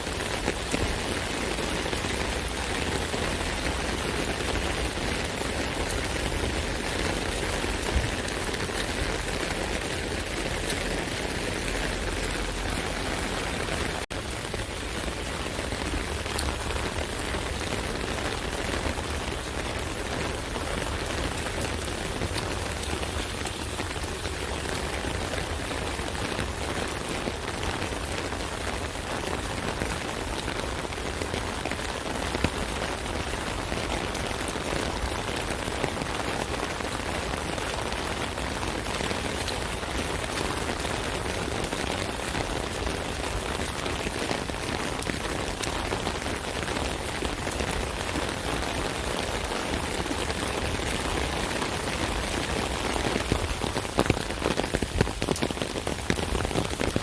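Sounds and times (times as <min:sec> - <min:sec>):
rain pattering on umbrella: 0:00.0 - 0:57.0.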